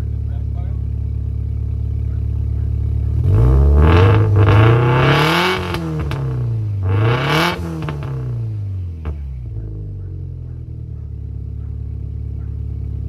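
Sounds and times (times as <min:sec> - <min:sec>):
car engine revving: 0:00.0 - 0:13.0
exhaust crackles: 0:00.0 - 0:13.0.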